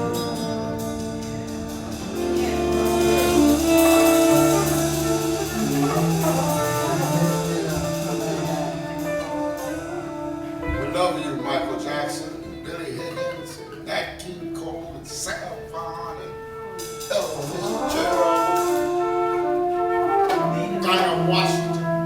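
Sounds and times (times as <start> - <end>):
instrumental music with held notes: 0.0 - 22.0.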